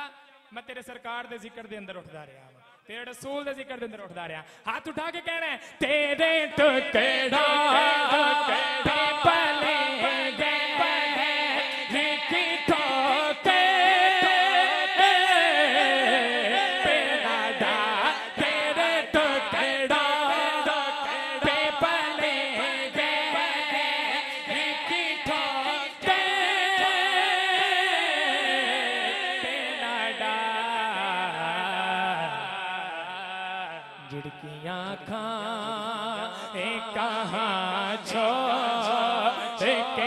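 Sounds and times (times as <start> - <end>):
man singing unaccompanied: 5.7 - 40.0.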